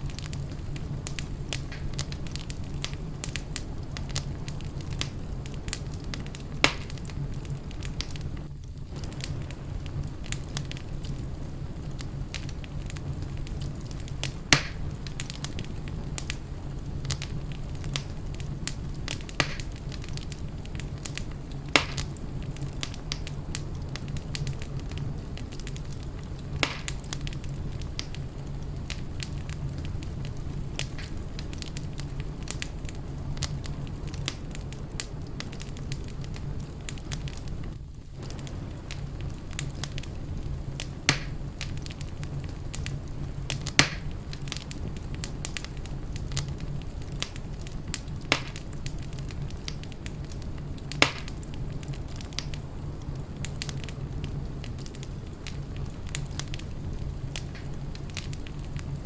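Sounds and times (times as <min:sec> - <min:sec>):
sharp pops of burning wood: 0:00.0 - 0:11.2, 0:11.8 - 0:37.5, 0:38.2 - 0:52.7, 0:53.4 - 0:59.0
fire burning in a fireplace: 0:00.0 - 0:59.0.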